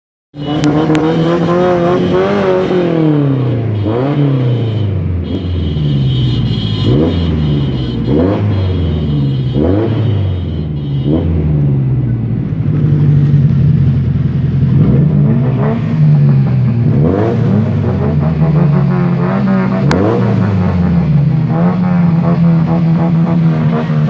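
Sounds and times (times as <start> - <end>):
car engines revving: 0.4 - 24.0.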